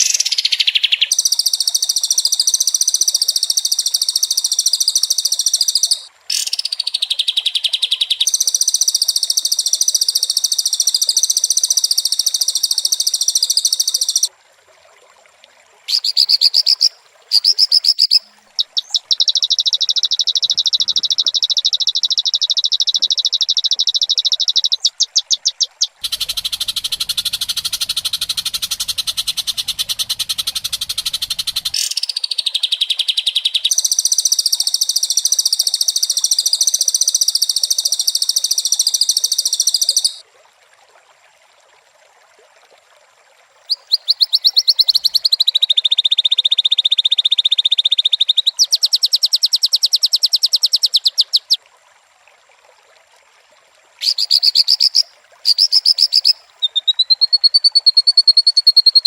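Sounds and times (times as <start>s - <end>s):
fast buzzy trilling calls: 0.0s - 14.3s, 15.9s - 40.2s, 43.7s - 46.0s, 48.6s - 51.6s, 54.0s - 59.0s.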